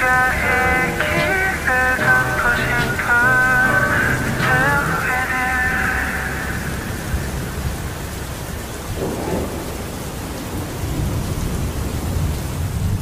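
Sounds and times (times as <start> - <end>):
low thunder rumbling: 0.0 - 13.0
steady rain: 0.0 - 13.0.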